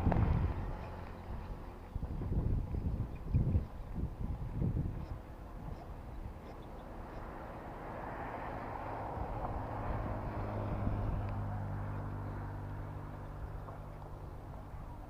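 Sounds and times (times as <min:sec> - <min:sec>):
distant vehicle engine hum: 0:00.0 - 0:15.0.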